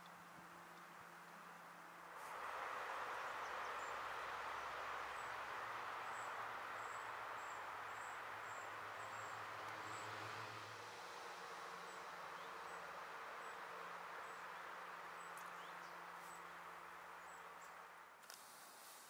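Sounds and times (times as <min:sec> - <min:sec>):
river water rushing: 0:02.2 - 0:18.0.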